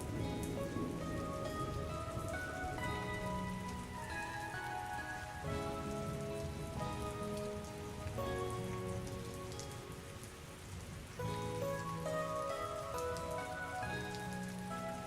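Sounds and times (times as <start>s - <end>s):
rain falling: 0.0s - 15.0s
soft slow instrumental music: 0.0s - 15.0s.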